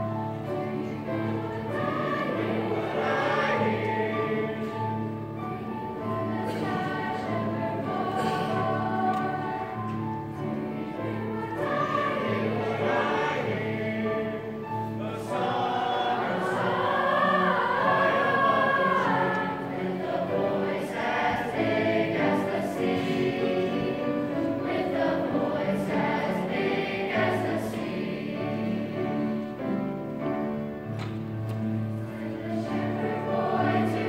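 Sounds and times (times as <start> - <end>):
choir of young voices singing: 0.0 - 34.0.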